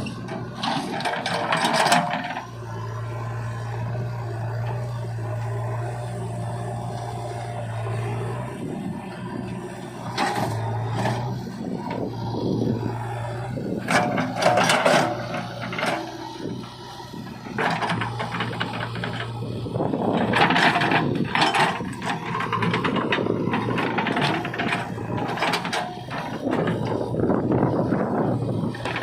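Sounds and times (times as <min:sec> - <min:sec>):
diesel engine running: 0:00.0 - 0:29.0
digger bucket scraping and clanking: 0:00.0 - 0:29.0.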